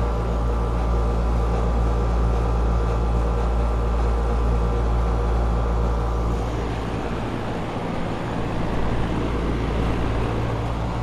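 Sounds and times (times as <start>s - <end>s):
air conditioner unit running: 0.0s - 11.0s.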